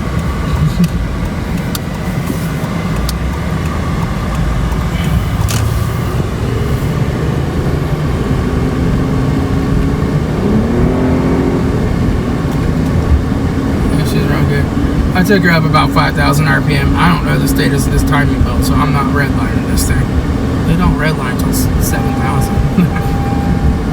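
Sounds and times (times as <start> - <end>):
car engine running under load: 0.0 - 23.9
road and tyre rumble: 0.0 - 23.9.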